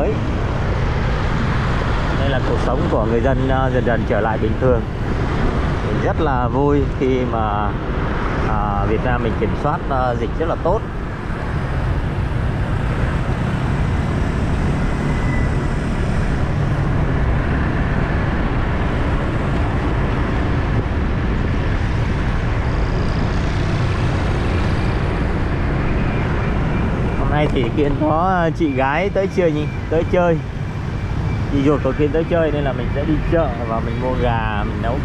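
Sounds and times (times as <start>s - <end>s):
road noise: 0.0s - 35.0s
traffic: 0.0s - 35.0s.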